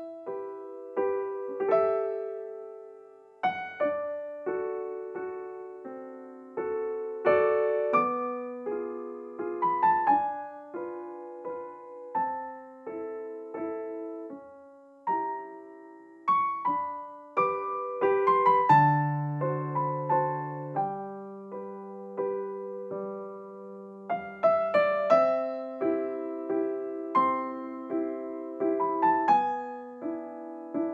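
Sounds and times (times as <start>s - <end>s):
gentle piano music: 0.0s - 30.9s.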